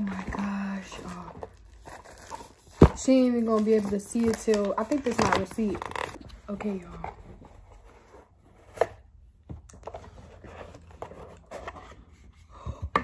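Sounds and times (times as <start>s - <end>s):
hands rustling and scraping box: 0.0s - 13.0s.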